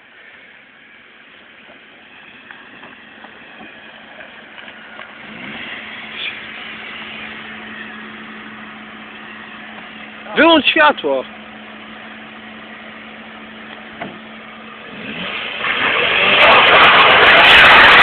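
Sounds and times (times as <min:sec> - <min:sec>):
car engine revving: 0:01.0 - 0:18.0.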